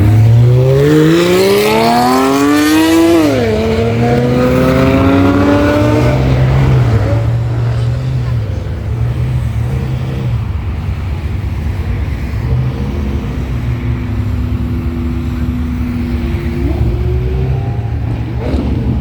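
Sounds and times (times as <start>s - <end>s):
sports car engine rumbling: 0.0s - 19.0s.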